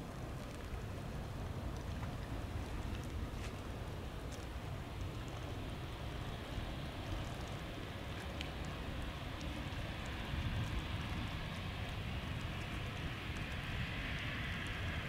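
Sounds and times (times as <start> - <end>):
jet engines rumbling at a distance: 0.0 - 15.0.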